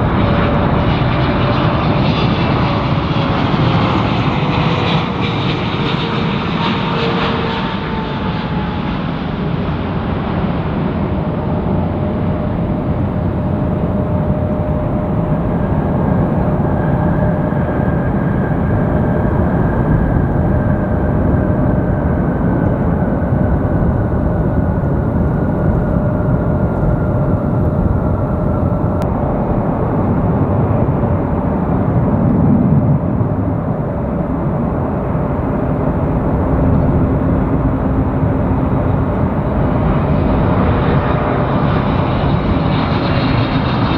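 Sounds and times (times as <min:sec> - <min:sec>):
jet airliner engine rumble: 0:00.0 - 0:43.9.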